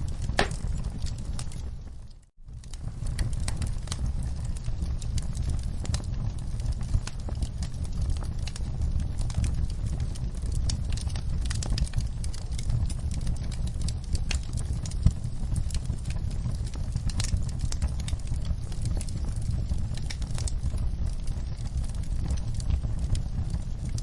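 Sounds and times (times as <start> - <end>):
low steady rumble: 0.0 - 24.0
wood fire crackling and popping: 0.0 - 24.0.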